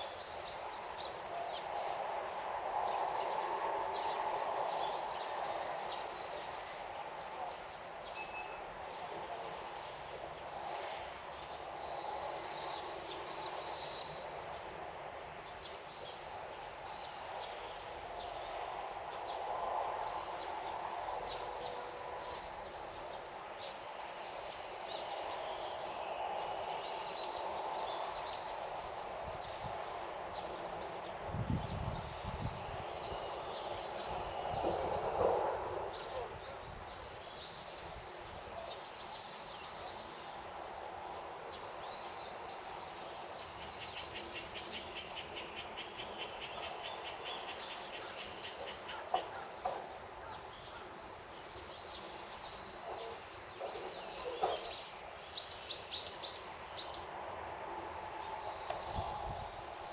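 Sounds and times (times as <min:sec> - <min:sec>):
birds chirping: 0:00.0 - 0:59.9
outdoor background hush: 0:00.0 - 0:59.9.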